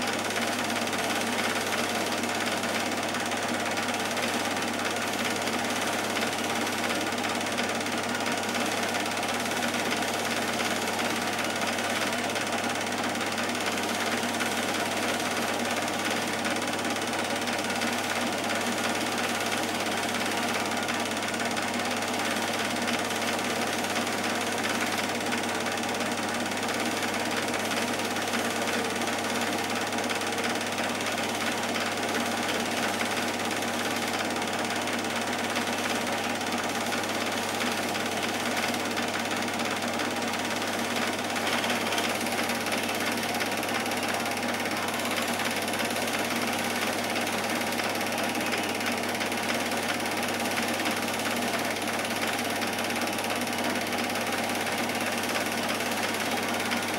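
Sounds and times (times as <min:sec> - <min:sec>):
film projector clatter: 0:00.0 - 0:56.9.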